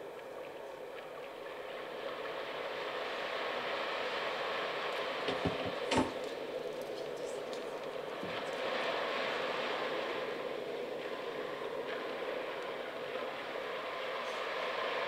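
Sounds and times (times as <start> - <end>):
surf washing: 0.0 - 15.0.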